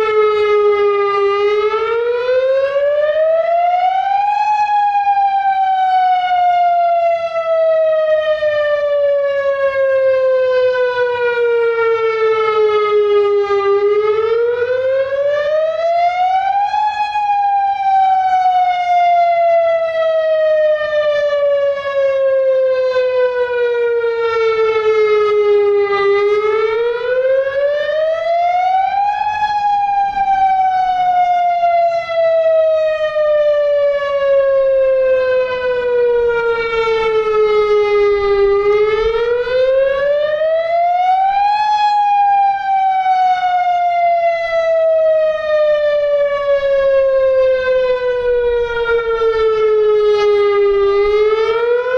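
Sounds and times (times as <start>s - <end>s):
outdoor warning siren wailing: 0.0s - 51.9s.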